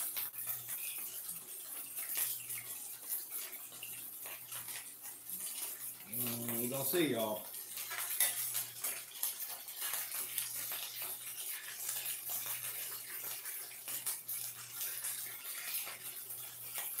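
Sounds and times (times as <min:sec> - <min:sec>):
patties sizzling in a skillet: 0:00.0 - 0:17.0.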